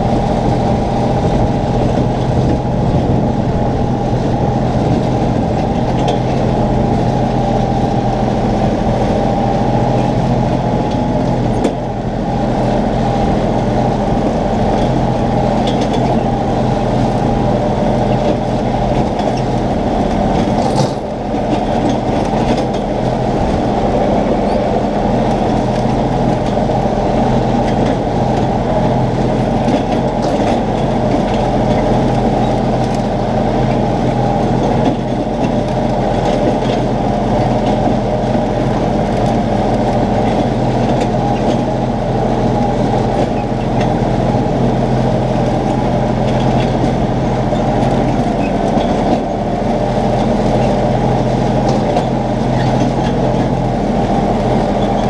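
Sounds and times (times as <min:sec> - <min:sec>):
tractor engine mowing: 0:00.0 - 0:55.0.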